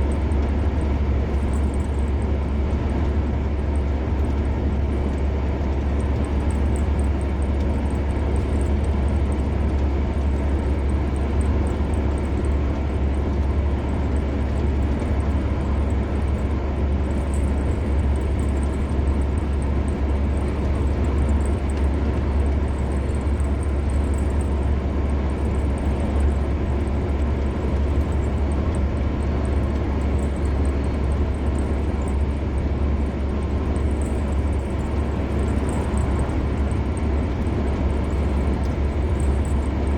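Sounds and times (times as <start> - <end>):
low road rumble: 0.0 - 39.9.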